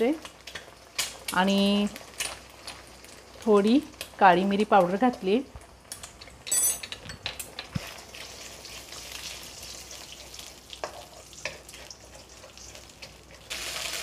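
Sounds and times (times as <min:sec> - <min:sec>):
eggs sizzling in hot oil: 0:00.0 - 0:14.0.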